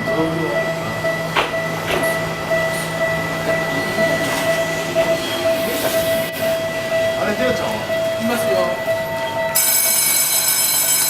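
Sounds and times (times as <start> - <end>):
electric locomotive humming: 0.0 - 11.0.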